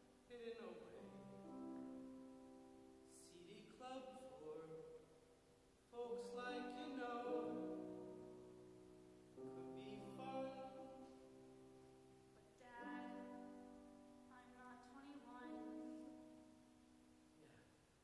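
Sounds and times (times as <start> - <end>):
grand piano slow chords: 0.0 - 17.6.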